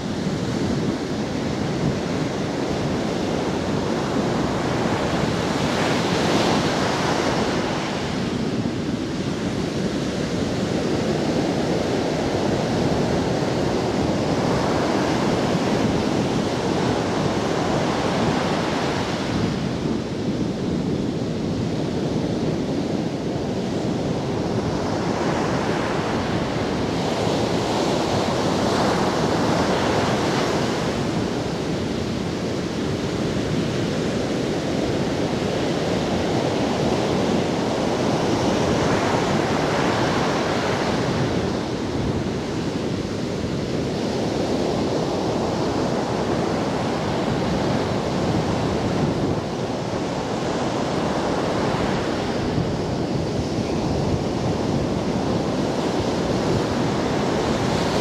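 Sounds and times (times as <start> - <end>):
sea surf breaking on beach: 0.0 - 58.0.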